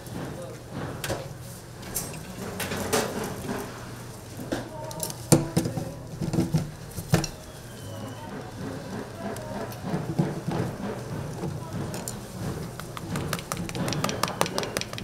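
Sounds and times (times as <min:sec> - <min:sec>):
metal waffle irons clanking: 0:01.9 - 0:07.6, 0:08.3 - 0:15.0.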